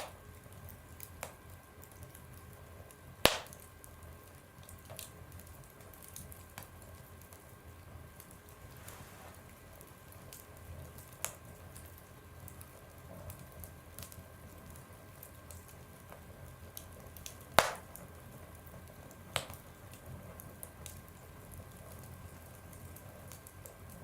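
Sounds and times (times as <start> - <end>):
fire crackling in a stove: 0.0 - 24.0.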